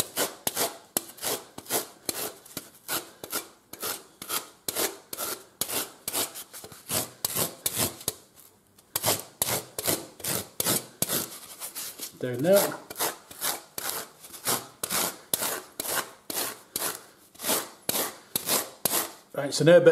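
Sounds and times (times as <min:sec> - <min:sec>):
rasp strokes: 0:00.0 - 0:08.2, 0:09.0 - 0:19.3.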